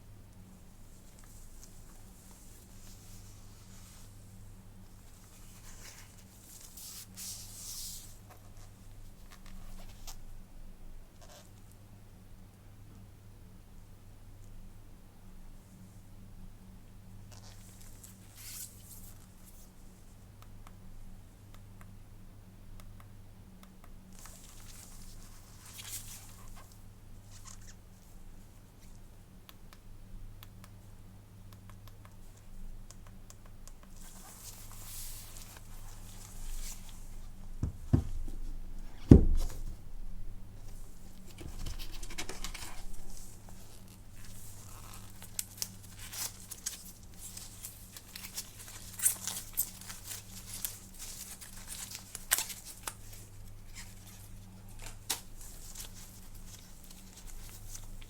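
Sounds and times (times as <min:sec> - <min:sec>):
faint electrical hum: 0:00.0 - 0:58.0.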